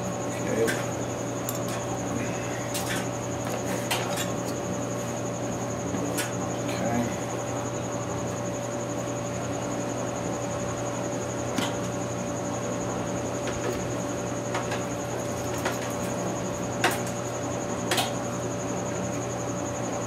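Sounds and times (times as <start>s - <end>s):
steady hum and hiss: 0.0s - 20.0s.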